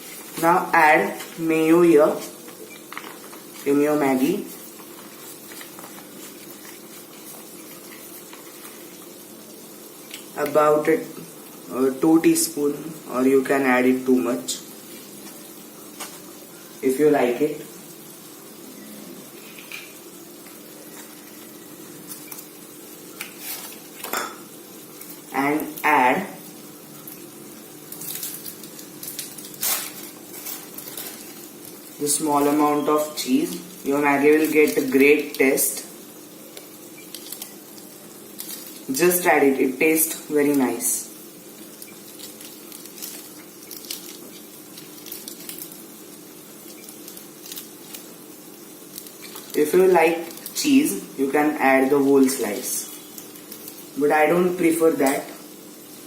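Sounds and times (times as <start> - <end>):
noodles simmering in a pan: 0.0 - 56.0.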